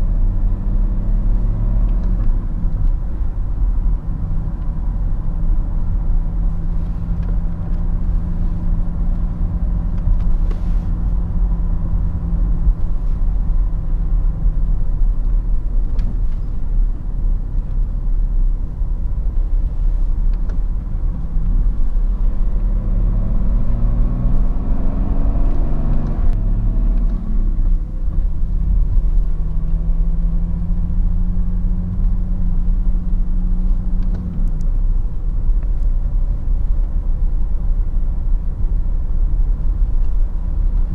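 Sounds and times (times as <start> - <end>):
car engine drone: 0.0 - 40.9
road rumble: 0.0 - 40.9.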